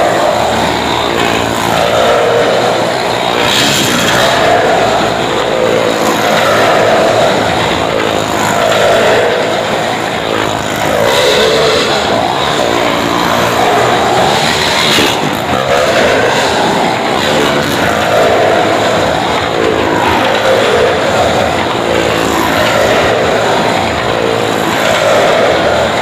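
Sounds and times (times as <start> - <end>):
motorcycle engine running hard: 0.0 - 26.0.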